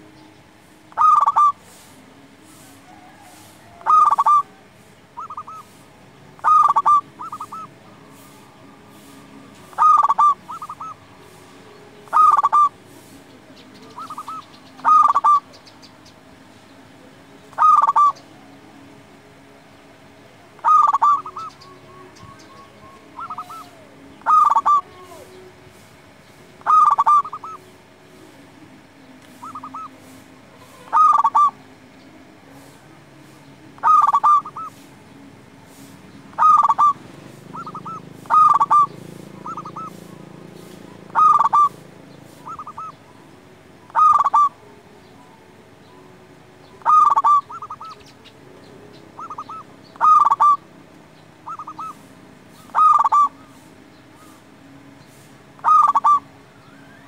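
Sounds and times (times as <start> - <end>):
dove cooing: 0.8 - 15.8, 17.4 - 18.9, 20.5 - 27.8, 29.3 - 35.0, 35.7 - 54.5, 55.1 - 57.0.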